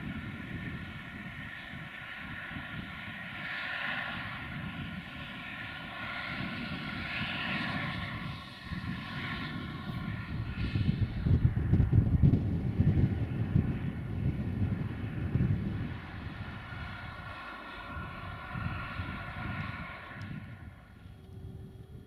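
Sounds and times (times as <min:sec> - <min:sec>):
distant engine drone: 0:00.0 - 0:22.0
wind buffeting microphone: 0:00.0 - 0:22.0.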